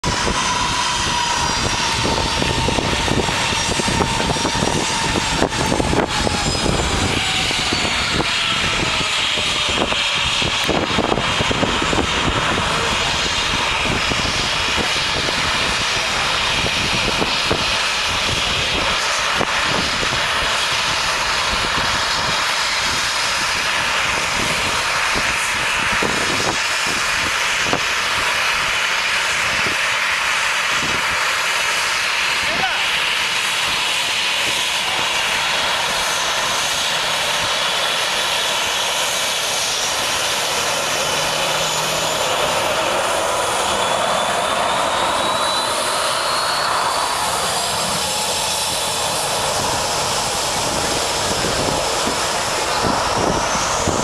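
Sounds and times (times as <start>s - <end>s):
engine whine sliding down: 0.0s - 29.8s, 32.6s - 54.0s
airplane engines roaring at takeoff: 0.0s - 54.0s.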